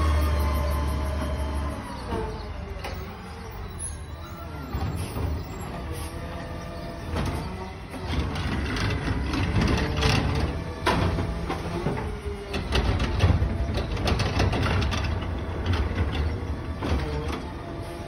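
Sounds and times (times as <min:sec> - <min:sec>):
garbage truck engine revving: 0:00.0 - 0:18.0.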